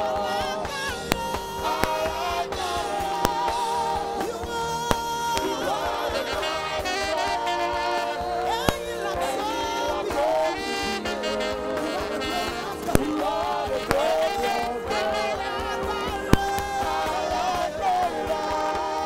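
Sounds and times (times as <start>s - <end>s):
live band playing: 0.0s - 19.0s
woman singing: 0.0s - 19.0s.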